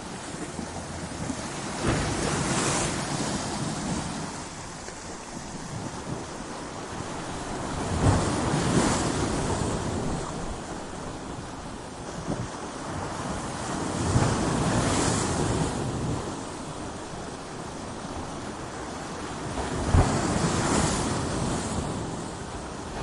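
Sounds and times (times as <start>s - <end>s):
ocean waves crashing on rocks: 0.0s - 23.0s.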